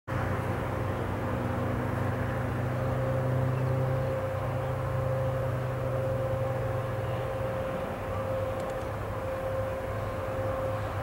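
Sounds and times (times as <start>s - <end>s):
jet engines droning: 0.1s - 11.0s.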